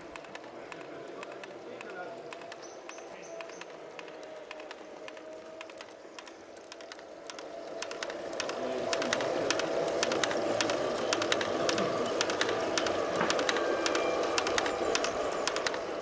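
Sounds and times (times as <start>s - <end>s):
rapid irregular clicks and rattles: 0.0s - 16.0s.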